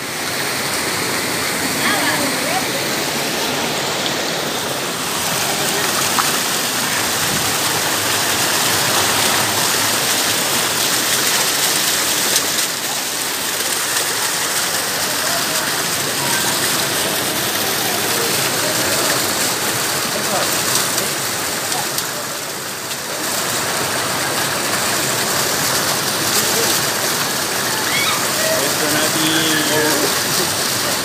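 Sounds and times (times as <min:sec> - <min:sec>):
stream rushing over boulders: 0:00.0 - 0:31.0.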